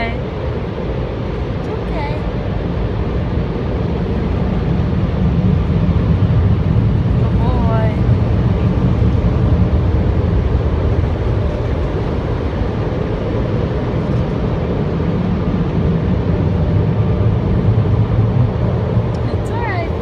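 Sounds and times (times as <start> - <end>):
car wash machinery rumbling: 0.0 - 20.0.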